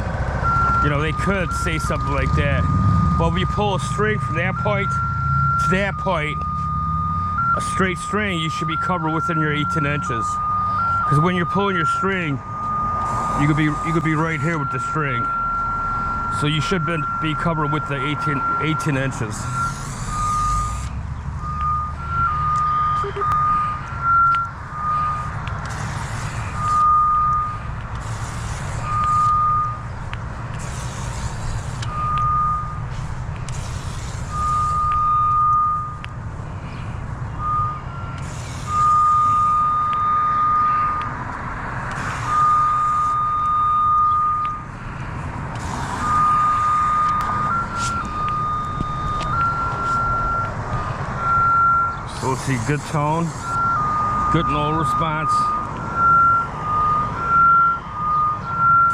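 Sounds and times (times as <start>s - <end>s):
electronic locator beeps: 0.0s - 58.9s
steady low rumble: 0.0s - 58.9s.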